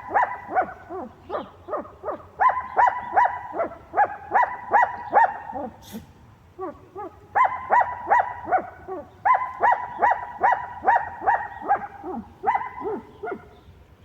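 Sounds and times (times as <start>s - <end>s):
dogs barking in high yelps: 0.0s - 5.8s, 6.5s - 13.6s.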